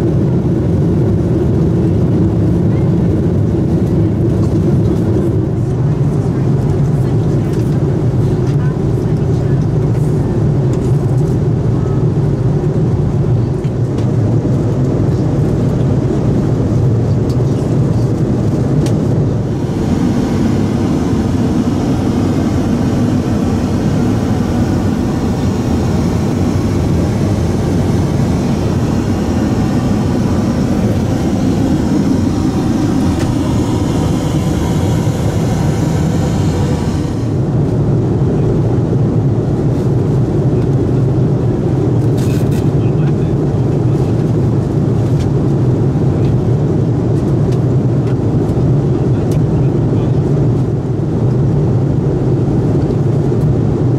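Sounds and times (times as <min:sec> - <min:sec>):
airplane cabin engine rush: 0:00.0 - 0:53.9.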